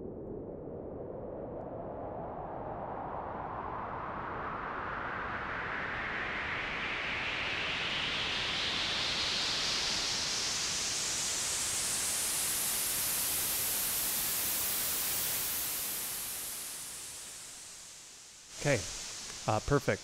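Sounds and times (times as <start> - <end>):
white noise filter sweep riser: 2.6 - 19.9.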